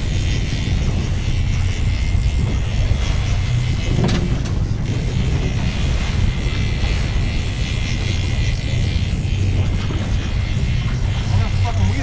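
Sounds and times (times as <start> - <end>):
outboard motors droning: 0.0 - 12.0
wind buffeting microphone: 0.0 - 12.0.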